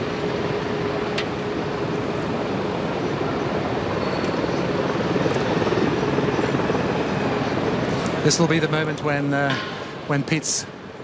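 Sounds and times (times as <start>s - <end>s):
airliner jet noise: 0.0s - 11.0s.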